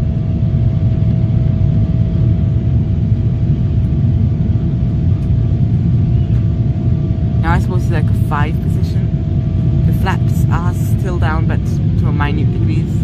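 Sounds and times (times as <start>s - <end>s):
airplane cabin engine rumble: 0.0s - 13.0s
constant hum: 0.0s - 13.0s.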